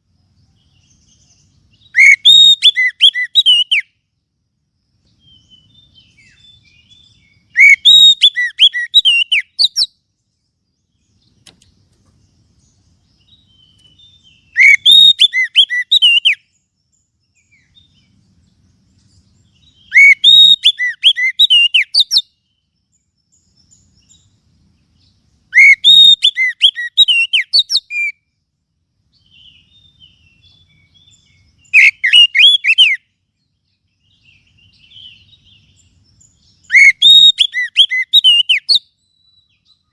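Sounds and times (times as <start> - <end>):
bird singing whistled notes: 0.0 - 39.9
faint bird chirps: 0.0 - 39.9.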